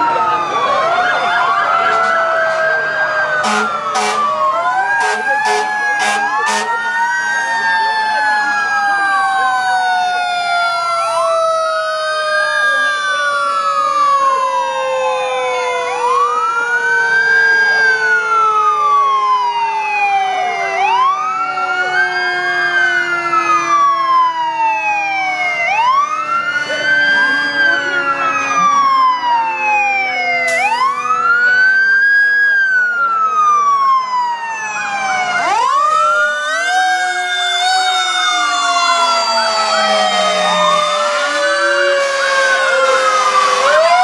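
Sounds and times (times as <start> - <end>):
fire truck sirens wailing: 0.0 - 44.0.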